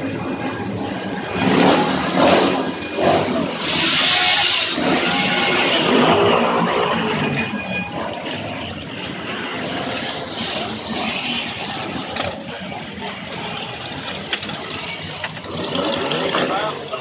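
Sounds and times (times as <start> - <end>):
vehicles running: 0.0 - 17.0.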